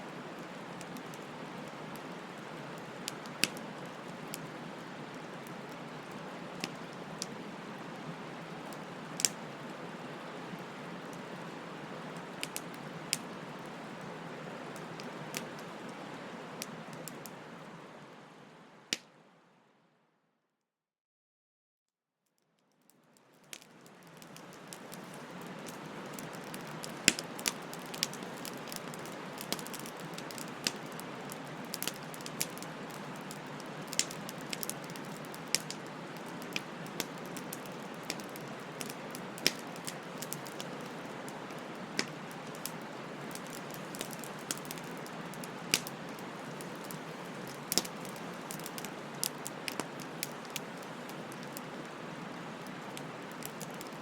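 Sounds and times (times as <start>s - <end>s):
wood fire hissing: 0.0s - 19.1s, 23.4s - 54.0s
crackles and pops of burning wood: 0.1s - 7.4s, 8.0s - 17.4s, 22.9s - 54.0s.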